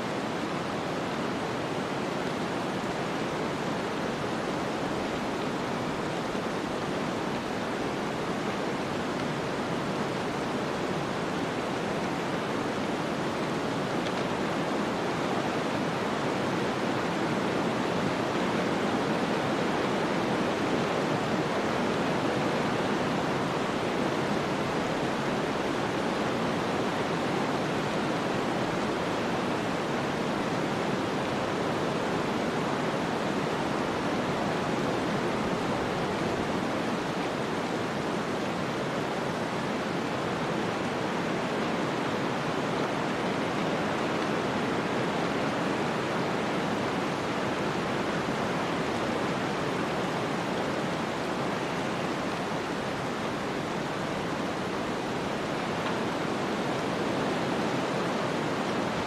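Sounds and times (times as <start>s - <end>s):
wind and blowing snow hiss: 0.0s - 59.0s.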